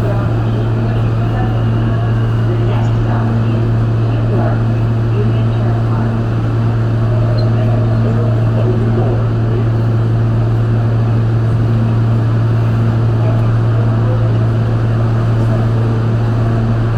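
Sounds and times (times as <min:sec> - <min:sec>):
subway car running noise: 0:00.0 - 0:16.9.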